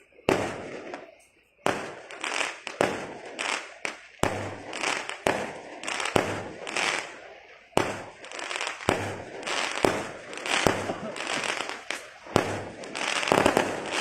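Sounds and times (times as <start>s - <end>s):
crackle and sizzle: 0.0s - 14.0s
fireworks bursting: 0.0s - 14.0s.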